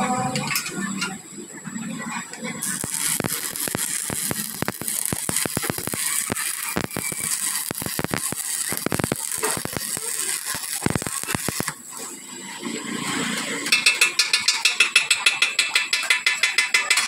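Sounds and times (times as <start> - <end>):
welding arc crackling and popping: 2.3 - 17.0.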